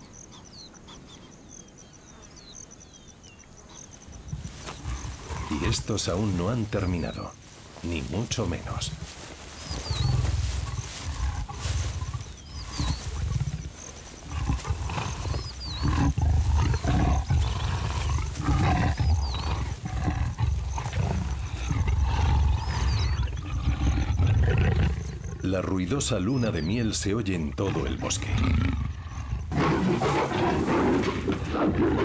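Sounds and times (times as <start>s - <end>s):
leopards growling: 3.7s - 32.0s.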